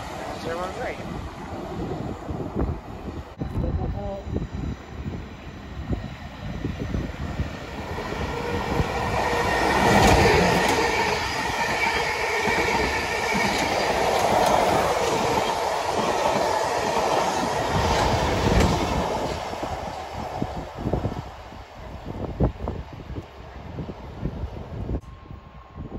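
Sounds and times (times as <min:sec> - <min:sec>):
electric train passing: 0:00.0 - 0:25.9.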